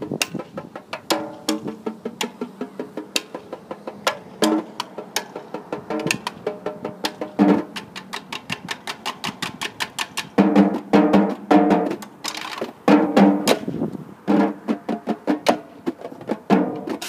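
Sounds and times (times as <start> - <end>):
snare drums playing: 0.0 - 12.0, 12.9 - 13.7, 14.3 - 17.0.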